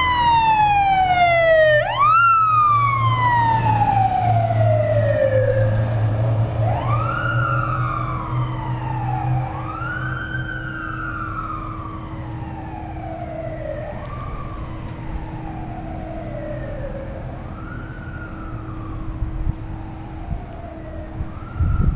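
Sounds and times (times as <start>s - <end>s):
fire engine siren wailing: 0.0s - 21.9s.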